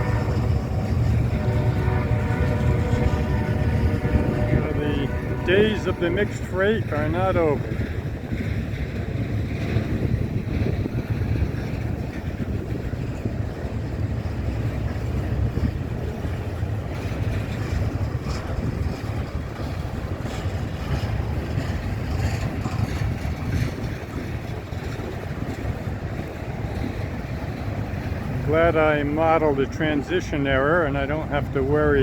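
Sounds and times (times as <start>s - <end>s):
steel wheels rumbling on rails: 0.0s - 32.0s.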